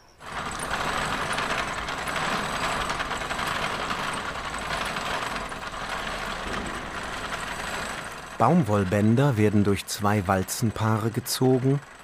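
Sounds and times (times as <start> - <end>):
spinning machine clattering: 0.2 - 12.0.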